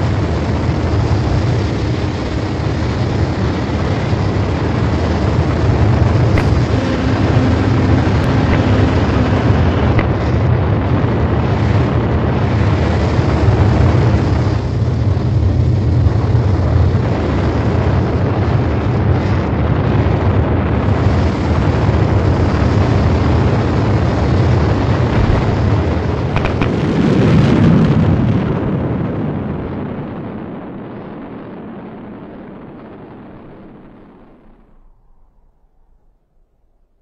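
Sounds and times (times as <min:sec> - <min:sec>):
rocket engines rushing rumble: 0:00.0 - 0:35.7.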